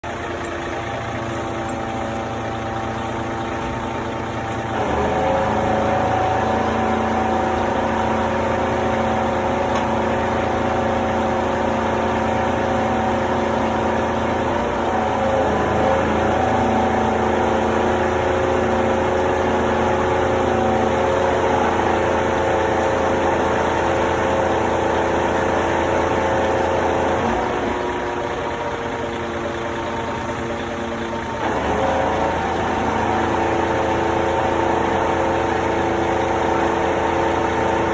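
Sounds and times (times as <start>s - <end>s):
heavy machinery engine running: 0.0s - 37.9s.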